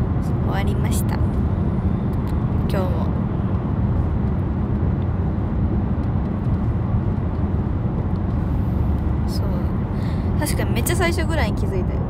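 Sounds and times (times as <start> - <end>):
car interior road and engine rumble: 0.0 - 12.0.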